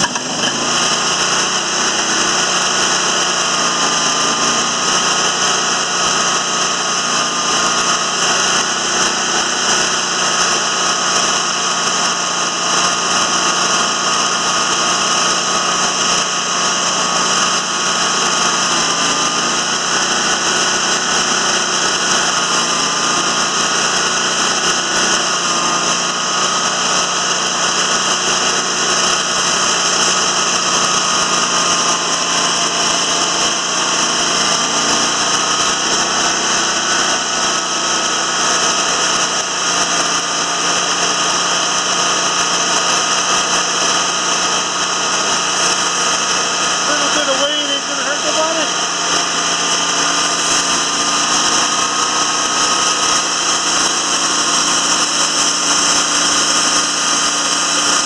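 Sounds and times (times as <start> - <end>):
band sawmill running: 0.0 - 58.0.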